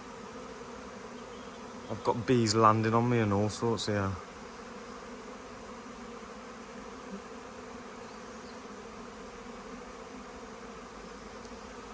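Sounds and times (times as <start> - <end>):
bees buzzing: 0.0 - 11.9.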